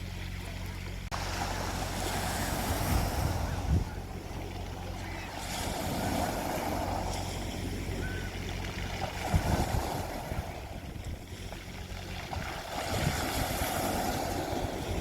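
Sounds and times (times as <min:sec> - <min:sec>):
sea waves washing onto beach: 0:00.0 - 0:15.0
steady low hum: 0:00.0 - 0:15.0
wind thumping on microphone: 0:01.1 - 0:15.0.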